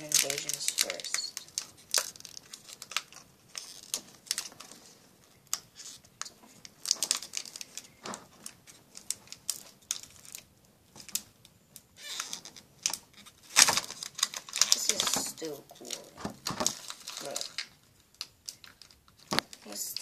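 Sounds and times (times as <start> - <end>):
cards clicking and rustling: 0.0 - 20.0
foil wrapper crinkling: 0.0 - 20.0.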